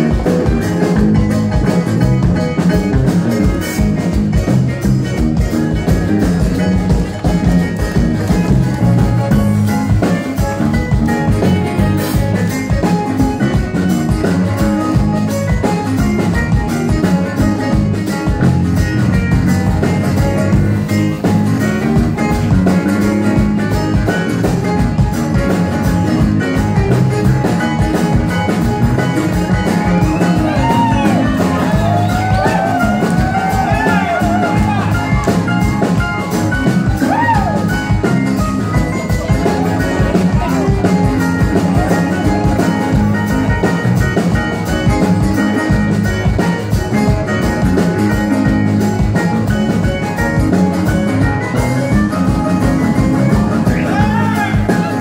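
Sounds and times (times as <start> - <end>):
bending high guitar notes: 0.0 - 55.0
steady beat: 0.0 - 55.0.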